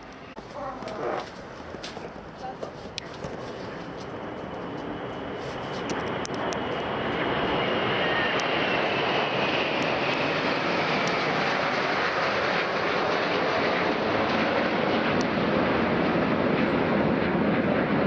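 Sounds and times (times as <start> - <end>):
jet aircraft flying past: 0.0 - 18.0.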